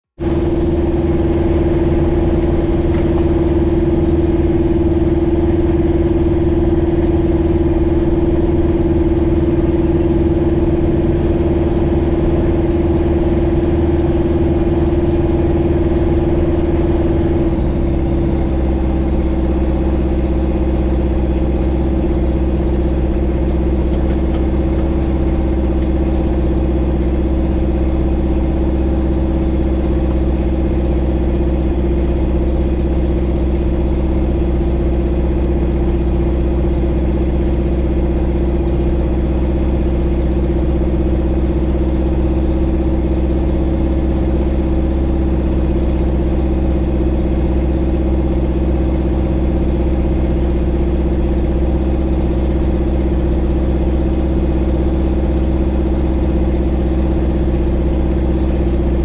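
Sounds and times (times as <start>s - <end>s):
light aircraft engine and propeller: 0.2s - 59.0s.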